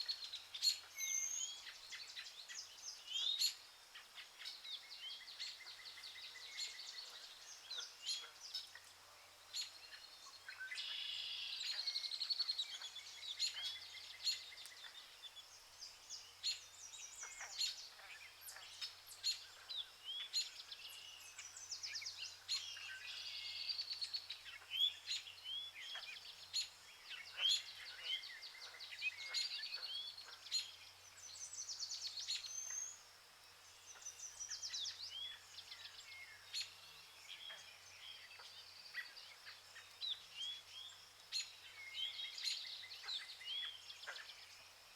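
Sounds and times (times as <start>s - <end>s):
birds chirping and trilling: 0.0s - 44.9s.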